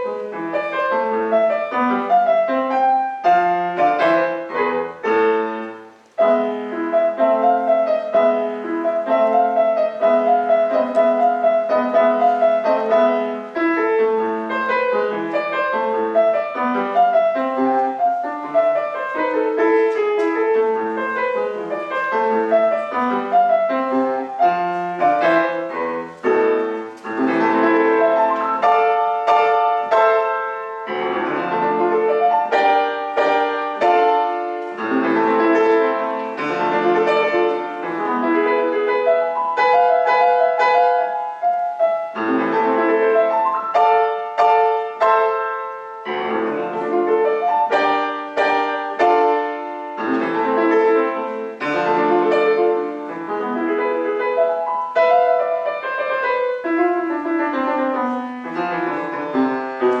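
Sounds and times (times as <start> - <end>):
solo piano: 0.0 - 60.0.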